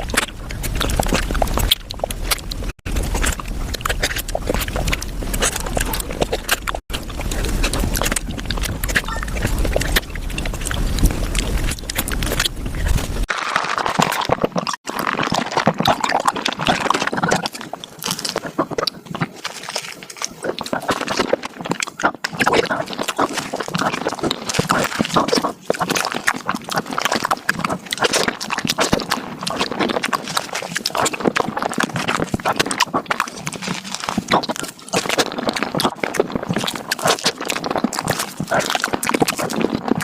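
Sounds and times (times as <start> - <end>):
sped-up chewing and slurping: 0.0 - 40.0.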